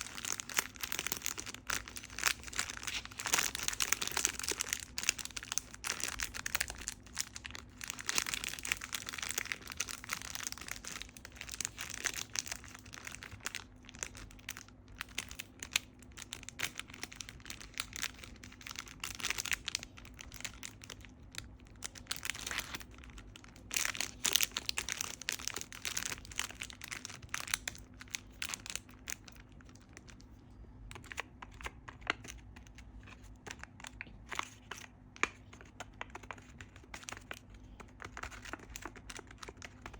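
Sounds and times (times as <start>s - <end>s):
crinkling and rustling: 0.0s - 39.9s.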